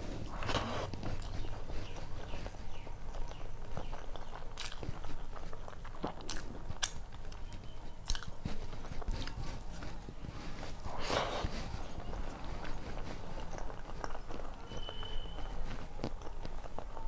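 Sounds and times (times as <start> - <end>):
person chewing food: 0.0 - 17.0
lip smacking: 0.1 - 14.8.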